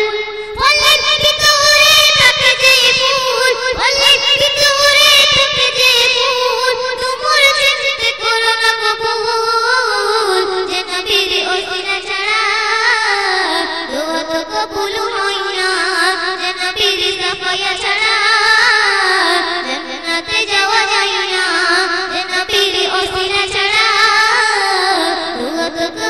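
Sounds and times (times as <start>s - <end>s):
girl singing into microphone: 0.0s - 26.0s.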